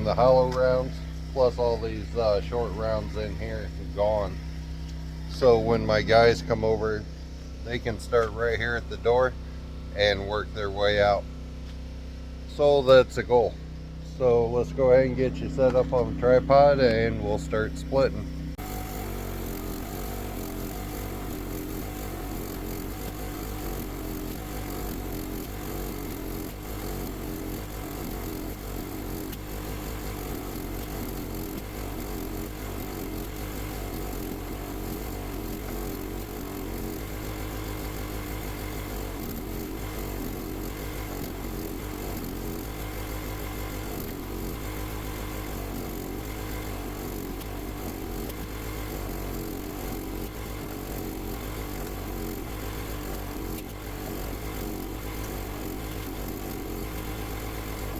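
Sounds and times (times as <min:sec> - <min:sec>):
log splitter motor drone: 0:00.0 - 0:57.9.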